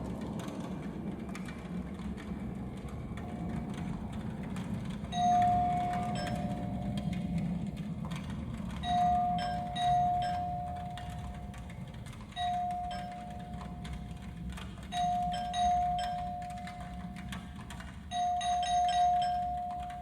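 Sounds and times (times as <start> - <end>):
ding-dong doorbell chime: 3.3 - 20.0.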